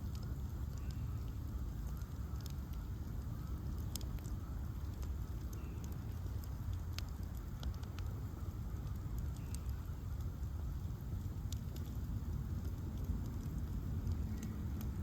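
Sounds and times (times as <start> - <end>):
bonfire burning with low rumble: 0.0 - 15.0
fire crackles and pops: 0.0 - 15.0.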